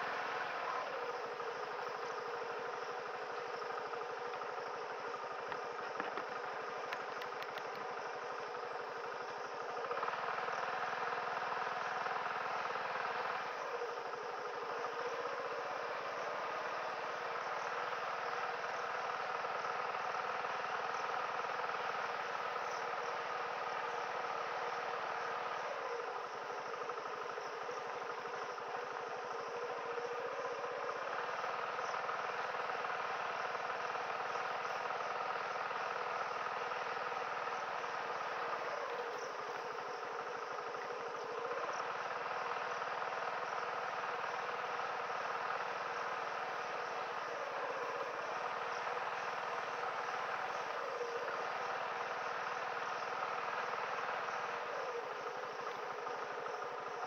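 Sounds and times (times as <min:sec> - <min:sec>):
insect chorus: 0:00.0 - 0:57.0
moped engine running: 0:00.0 - 0:57.0.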